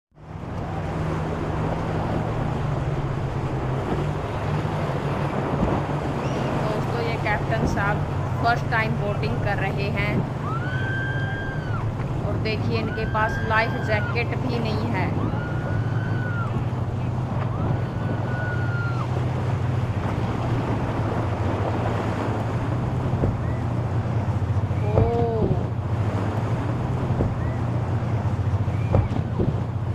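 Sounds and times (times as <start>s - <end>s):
boat engine running: 0.1s - 29.9s
waves splashing: 0.1s - 29.9s
wind and water rushing: 0.1s - 29.9s.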